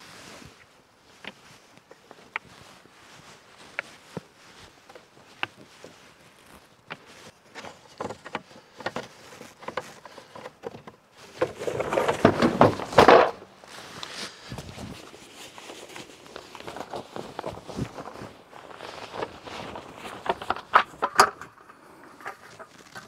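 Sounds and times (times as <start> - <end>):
canvas rustling: 0.0 - 23.0
clicks and knocks of straps: 1.1 - 23.0.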